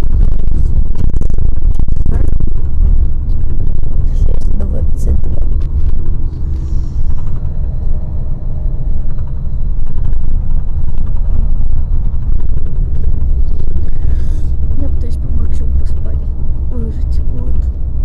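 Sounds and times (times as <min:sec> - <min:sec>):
vehicle rumble: 0:00.0 - 0:18.0.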